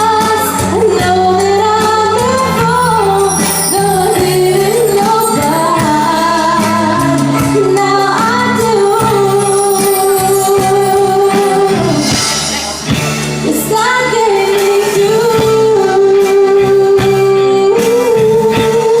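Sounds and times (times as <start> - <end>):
live band playing pop ballad: 0.0 - 19.0.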